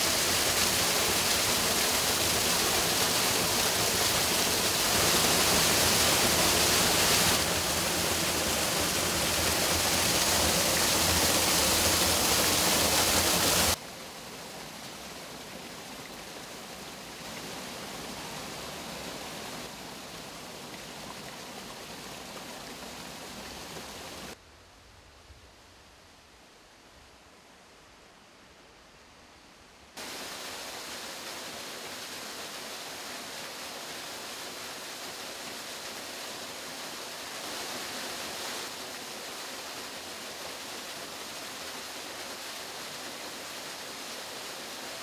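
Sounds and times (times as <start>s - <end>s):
stream water rushing: 0.0s - 24.4s, 30.0s - 45.0s.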